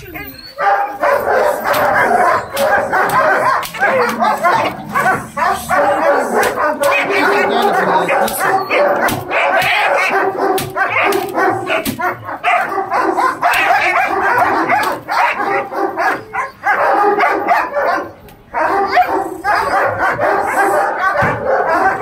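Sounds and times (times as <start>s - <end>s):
dogs barking excitedly: 0.0s - 22.0s.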